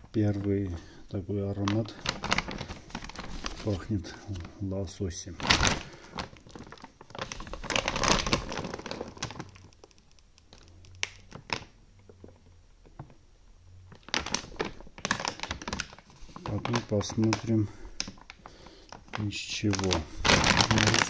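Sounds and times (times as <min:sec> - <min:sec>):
plastic bag crinkling: 0:00.0 - 0:12.4, 0:13.9 - 0:21.0.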